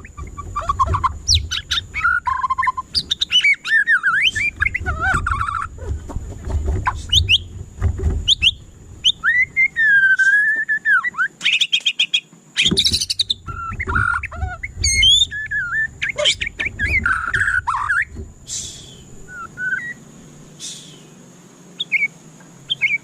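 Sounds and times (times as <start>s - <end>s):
songbird whistling and trilling: 0.0s - 5.9s, 6.8s - 7.5s, 8.2s - 20.0s, 21.8s - 23.0s
low background rumble: 0.0s - 9.8s, 12.9s - 21.7s.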